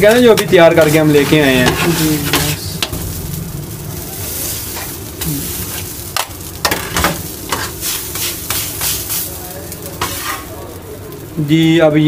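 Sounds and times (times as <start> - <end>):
chicken sizzling on a griddle: 0.0 - 12.0.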